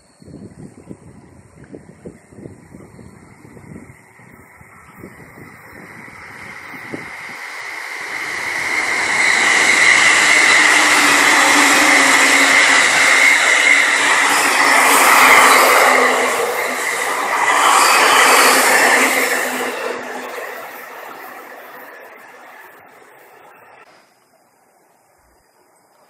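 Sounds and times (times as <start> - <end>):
train wheels on rails: 0.6 - 24.0
steady high whine: 1.2 - 23.9.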